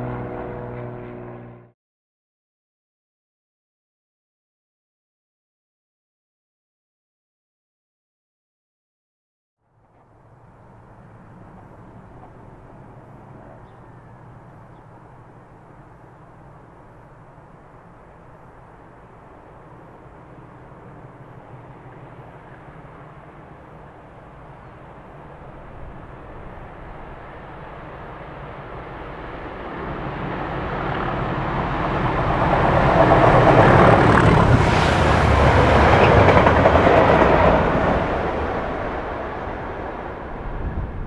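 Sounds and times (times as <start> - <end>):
diesel train passing: 0.0 - 1.7, 9.6 - 41.0.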